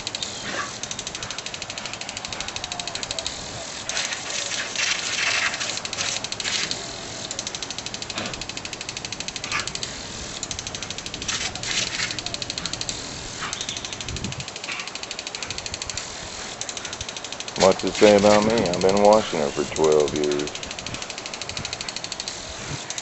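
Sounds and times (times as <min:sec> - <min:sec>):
lawn sprinkler clicking: 0:00.0 - 0:23.0
water spray hissing: 0:00.0 - 0:23.0.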